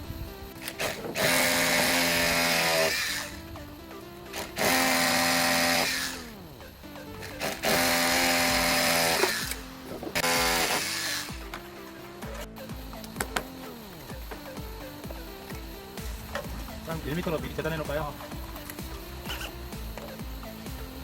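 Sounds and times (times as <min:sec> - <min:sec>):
background music: 0:00.0 - 0:21.0
electric power tool bursts: 0:00.4 - 0:21.0.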